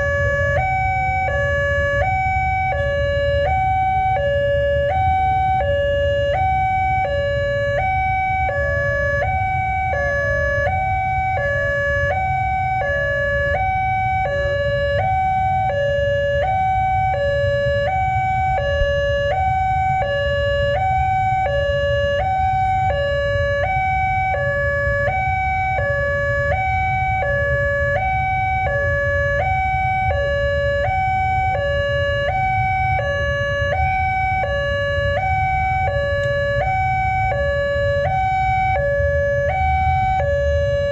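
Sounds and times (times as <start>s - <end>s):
two-tone level crossing siren: 0.0s - 40.9s.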